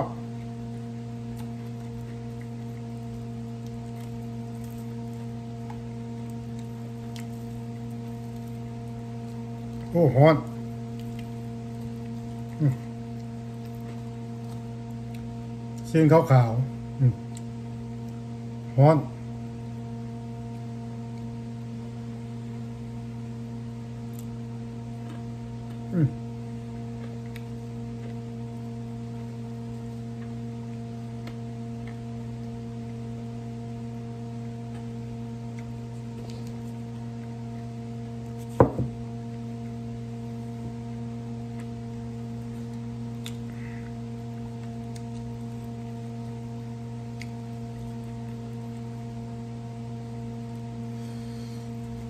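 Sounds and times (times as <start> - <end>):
low hum with higher tones: 0.0 - 52.0.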